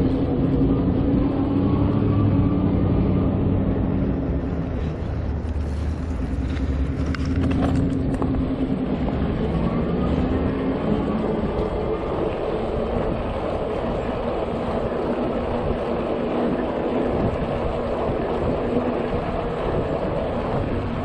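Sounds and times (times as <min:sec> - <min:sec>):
road noise rushing: 0:00.0 - 0:21.0
steady low hum: 0:00.0 - 0:21.0.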